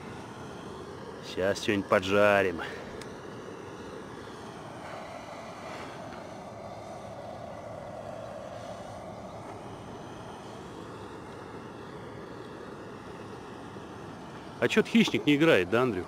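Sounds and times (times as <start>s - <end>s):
gas torch hissing: 0.0s - 16.0s.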